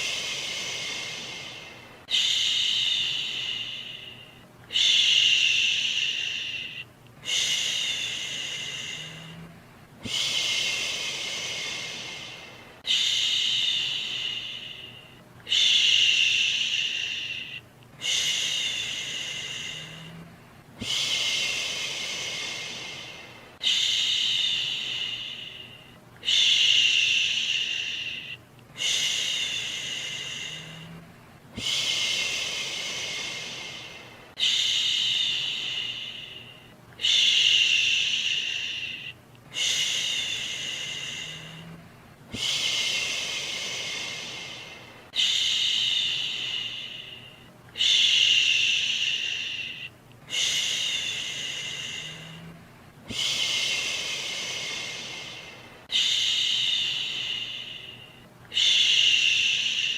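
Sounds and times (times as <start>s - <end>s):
person shushing: 0.0s - 59.9s.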